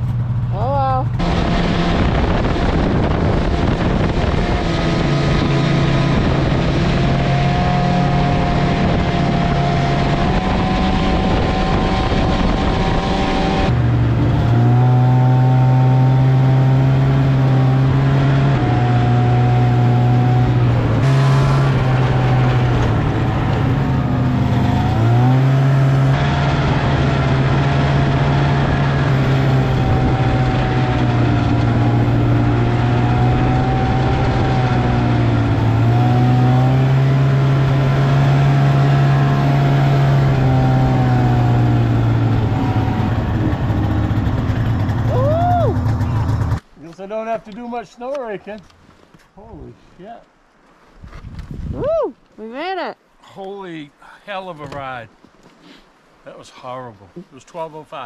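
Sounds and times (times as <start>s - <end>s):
snowmobile engine running: 0.0s - 46.6s.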